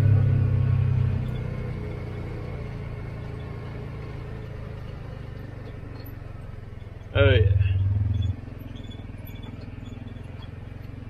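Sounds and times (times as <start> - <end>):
vehicle engine low hum: 0.0 - 11.0.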